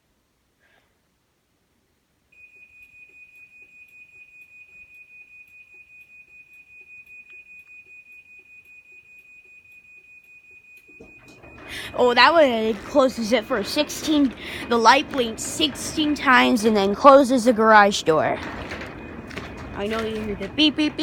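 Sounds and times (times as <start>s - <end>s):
rapid high-pitched warning beeps: 2.4s - 21.0s.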